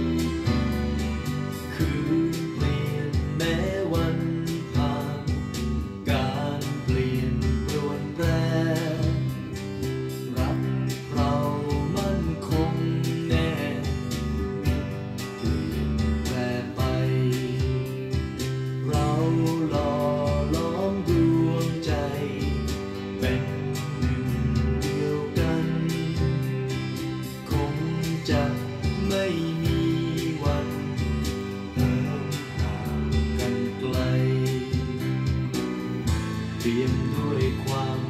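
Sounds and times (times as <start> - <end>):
person singing: 0.0 - 38.0
pop band with guitar and beat: 0.0 - 38.0.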